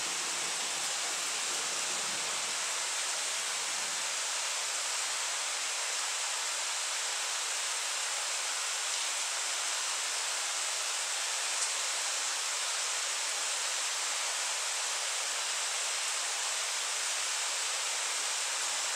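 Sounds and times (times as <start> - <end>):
heavy rain hissing: 0.0 - 18.9.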